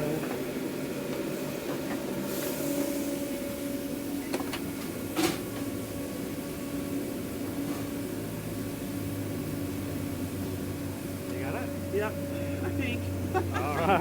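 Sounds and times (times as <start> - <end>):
kitchen equipment humming: 0.0 - 14.0.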